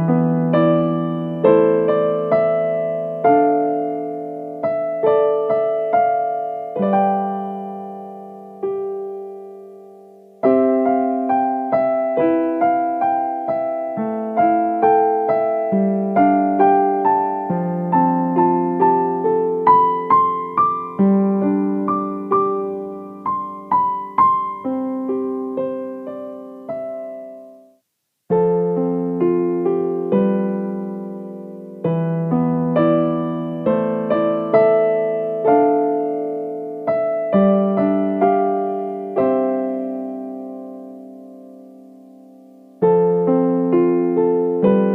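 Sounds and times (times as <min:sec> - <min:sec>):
gentle solo piano melody: 0:00.0 - 0:44.9.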